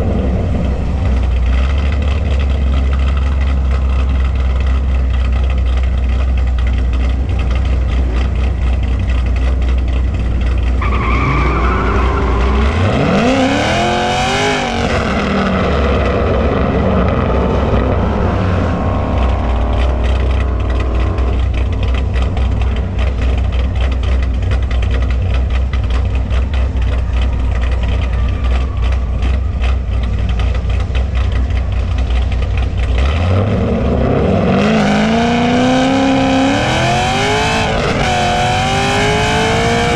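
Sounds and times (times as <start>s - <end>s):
low engine rumble: 0.0s - 39.9s.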